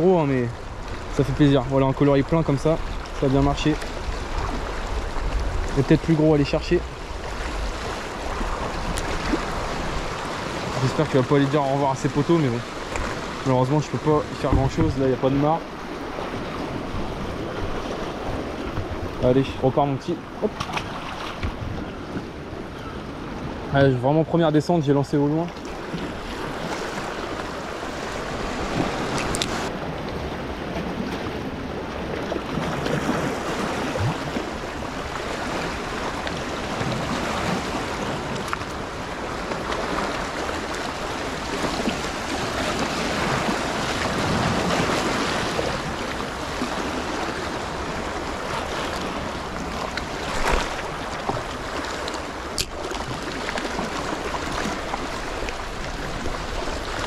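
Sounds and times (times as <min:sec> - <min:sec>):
waves lapping over rocks: 0:00.0 - 0:22.5, 0:23.2 - 0:57.0.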